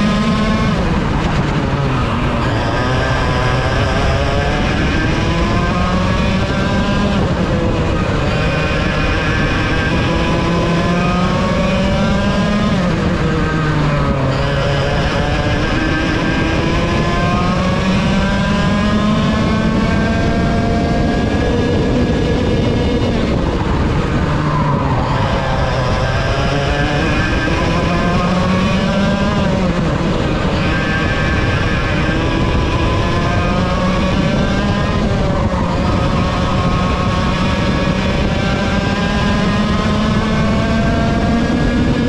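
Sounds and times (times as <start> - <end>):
kart engine at racing speed: 0.0 - 42.0.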